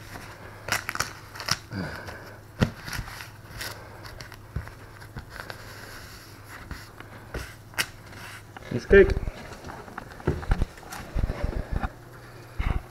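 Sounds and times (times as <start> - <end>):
tape crackling and scraping: 0.0 - 11.9.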